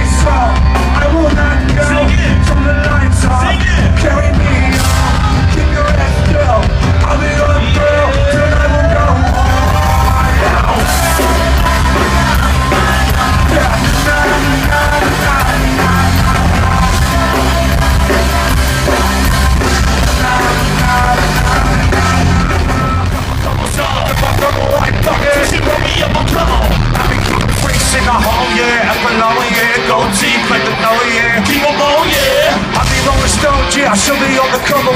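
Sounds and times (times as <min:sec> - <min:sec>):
bass-driven backing track: 0:00.0 - 0:34.9
rapped and shouted vocals: 0:00.0 - 0:34.9.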